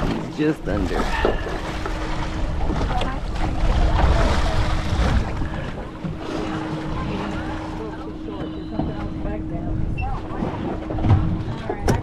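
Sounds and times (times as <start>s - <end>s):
low hum: 0.0s - 12.0s
water slapping boat hull: 0.0s - 12.0s
wind buffeting microphone: 0.9s - 12.0s.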